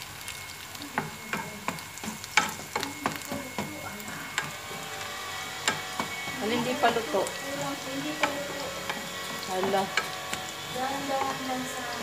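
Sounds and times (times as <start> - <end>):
onion sizzling in oil: 0.0 - 12.0
wooden spoon tapping pan: 1.0 - 12.0.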